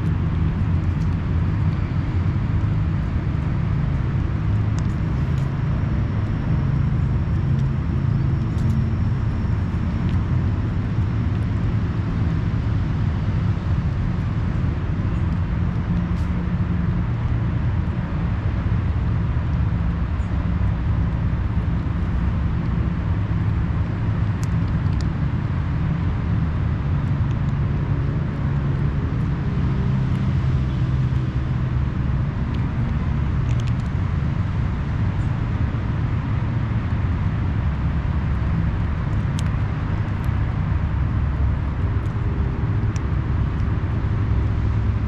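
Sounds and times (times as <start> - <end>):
vehicle engine rumbling: 0.0 - 45.0.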